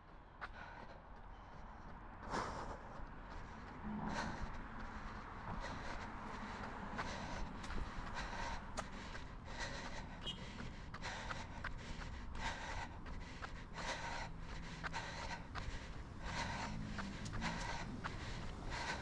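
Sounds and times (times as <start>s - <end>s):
runner breathing heavily: 0.0s - 19.0s
steady low rumble: 0.0s - 19.0s.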